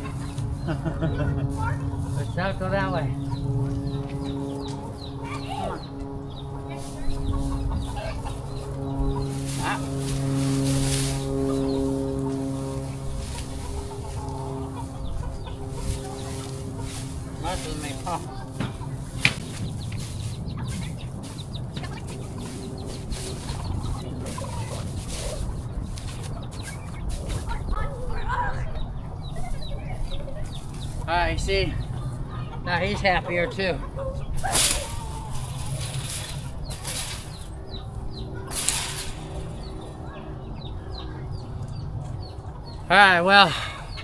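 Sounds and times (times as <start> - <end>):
chickens clucking: 0.0 - 44.0
steady low rumble: 0.0 - 44.0.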